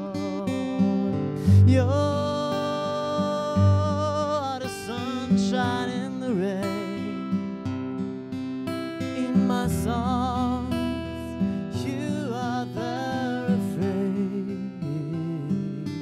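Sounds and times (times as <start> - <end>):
man singing: 0.0 - 7.6, 8.8 - 16.0
acoustic guitar strumming: 0.0 - 16.0.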